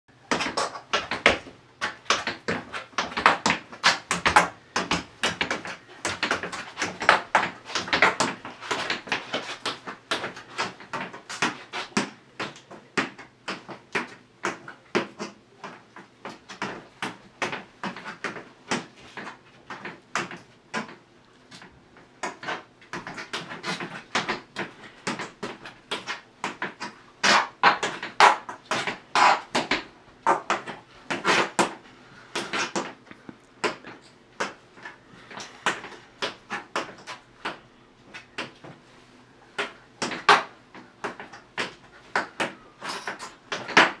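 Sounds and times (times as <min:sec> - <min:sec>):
tap shoes on tile floor: 0:00.3 - 0:38.8.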